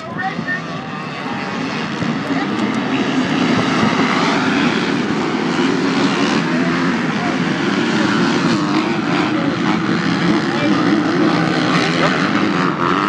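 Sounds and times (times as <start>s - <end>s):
dirt bike and quad engines revving: 0.0s - 13.0s.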